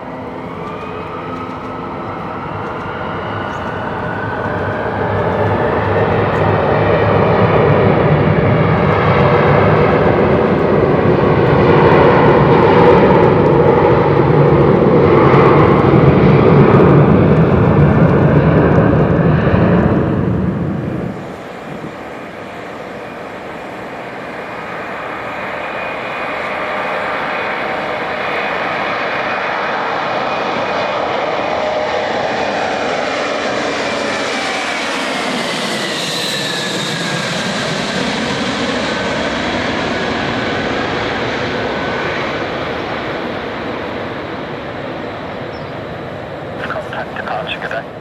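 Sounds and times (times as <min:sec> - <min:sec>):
jet engine whine: 0:00.0 - 0:48.0
jet passing by: 0:00.0 - 0:48.0.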